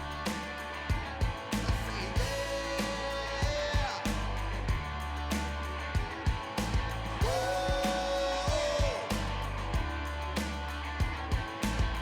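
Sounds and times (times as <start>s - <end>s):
rock music with drums and guitar: 0.0s - 12.0s.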